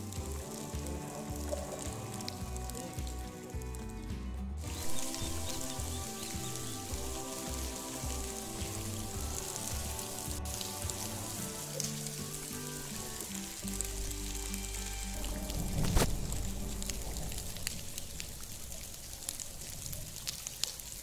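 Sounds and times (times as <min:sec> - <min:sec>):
background music of held notes: 0:00.0 - 0:17.8
rain hissing: 0:00.0 - 0:21.0.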